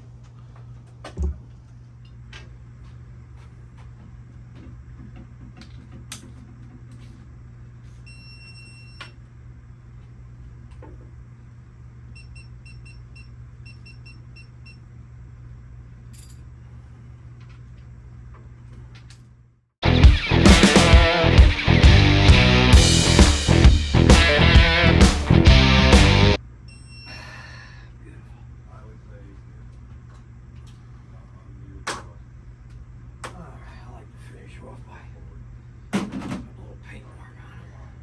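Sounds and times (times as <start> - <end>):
low hum of engine shop: 0.0 - 38.0.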